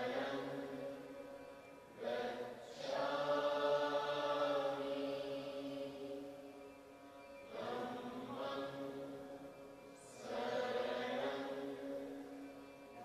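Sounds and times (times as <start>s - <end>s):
slow chanting voices: 0.0s - 13.0s.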